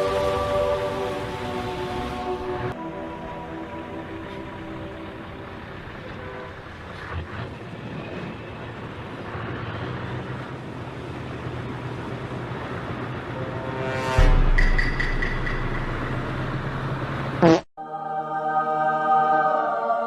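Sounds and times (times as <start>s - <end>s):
rushing road noise: 0.0s - 17.4s
vehicle engine humming: 0.0s - 17.4s.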